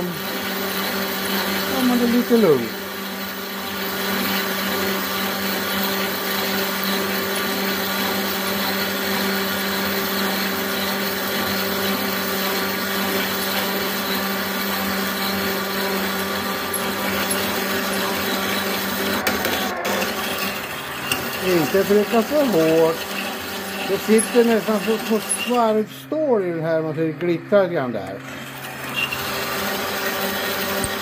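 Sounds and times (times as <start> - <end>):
drill press motor hum: 0.0 - 31.0
hole saw grinding through steel: 0.0 - 31.0.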